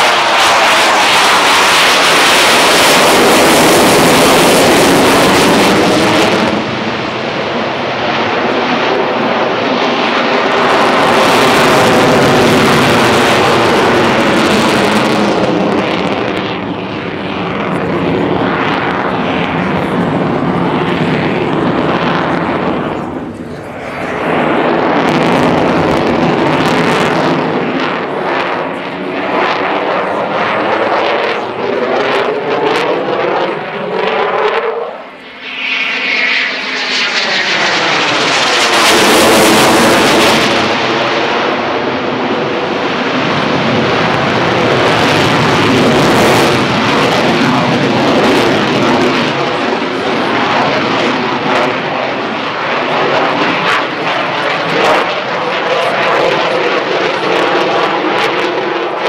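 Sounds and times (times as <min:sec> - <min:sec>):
loud jet engine noise: 0:00.0 - 0:59.0.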